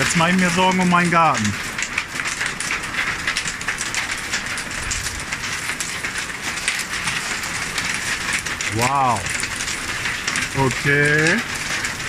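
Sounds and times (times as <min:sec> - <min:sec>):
heavy rain on plastic roof: 0:00.0 - 0:12.0.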